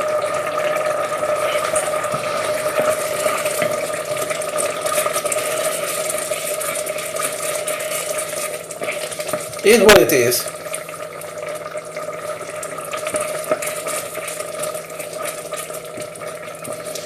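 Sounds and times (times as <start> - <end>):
rice simmering and crackling: 0.0 - 17.0
steady hum: 0.0 - 17.0.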